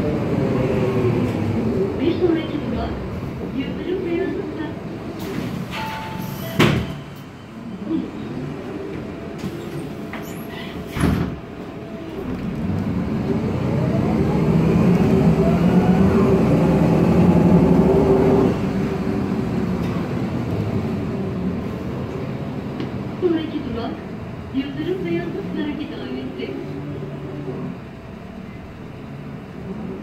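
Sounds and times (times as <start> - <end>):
bus drivetrain whine: 0.0 - 30.0.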